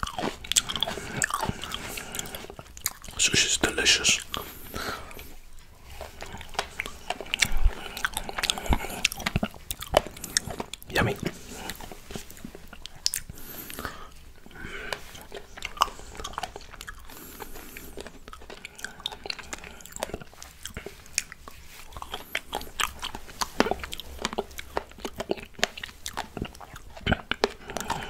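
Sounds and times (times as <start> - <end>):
person chewing soft fruit: 0.0 - 28.0.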